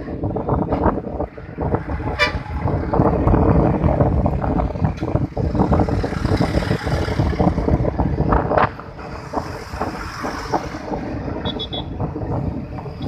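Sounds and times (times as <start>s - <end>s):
road traffic hum: 0.0s - 13.0s
wind buffeting microphone: 0.0s - 13.0s.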